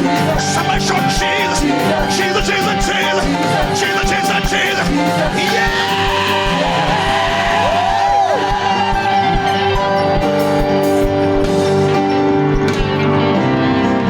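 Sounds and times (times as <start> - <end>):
steady low drum beat: 0.0 - 13.0
sliding melody line: 0.0 - 14.0.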